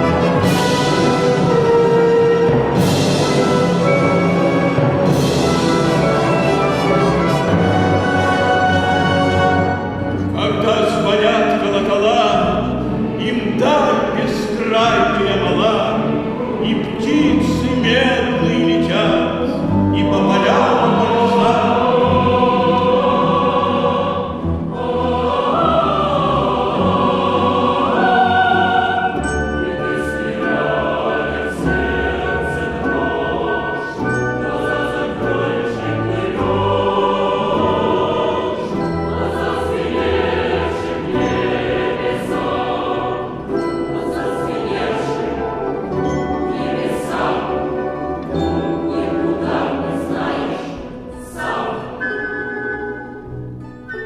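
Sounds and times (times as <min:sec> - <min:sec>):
mixed choir singing: 0:00.0 - 0:52.6
folk-instrument orchestra: 0:00.0 - 0:54.0.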